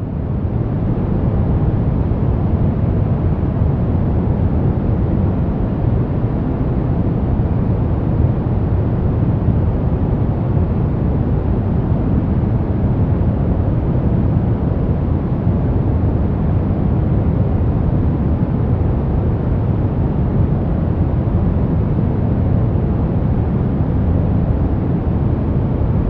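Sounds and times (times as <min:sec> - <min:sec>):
low rumbling white noise: 0:00.0 - 0:26.0.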